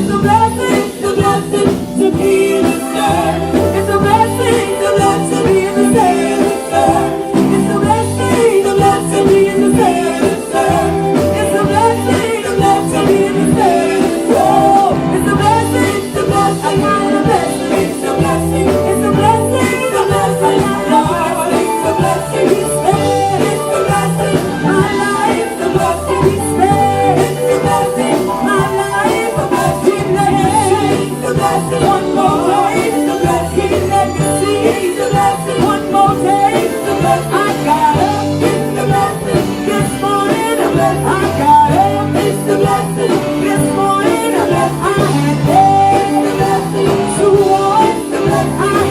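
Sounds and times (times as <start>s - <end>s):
band with bass and guitar: 0.0s - 48.9s
gospel singing: 0.0s - 48.9s.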